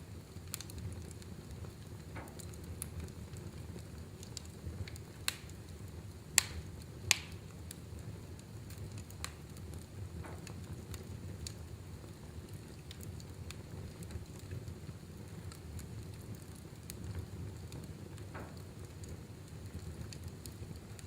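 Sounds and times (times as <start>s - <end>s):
low rumble of flames: 0.0s - 21.0s
wood fire popping and snapping: 0.0s - 21.0s.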